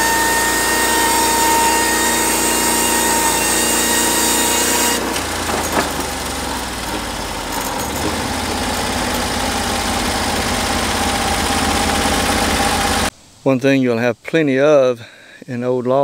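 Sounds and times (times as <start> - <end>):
band blade cutting log: 0.0 - 13.1
sawmill engine running: 0.0 - 13.1.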